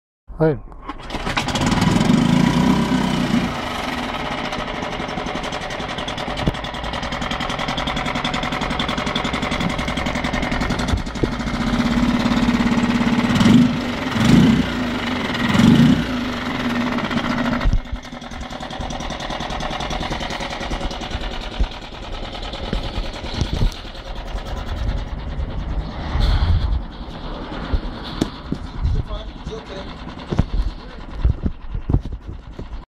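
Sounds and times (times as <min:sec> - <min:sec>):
outboard motor revving: 0:00.8 - 0:32.8
outboard motor running: 0:01.0 - 0:26.0, 0:26.7 - 0:32.8.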